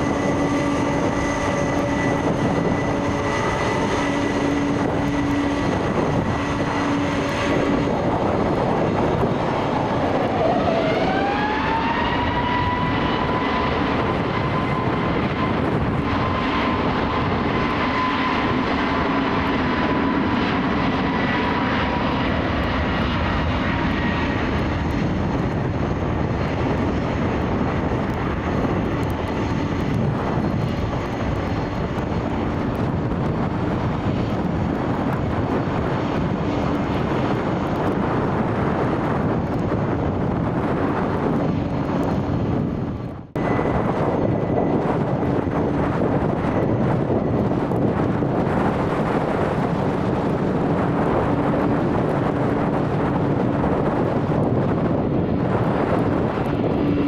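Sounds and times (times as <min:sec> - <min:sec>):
jet engine roar: 0:00.0 - 0:57.0
jet engine whine: 0:00.0 - 0:57.0.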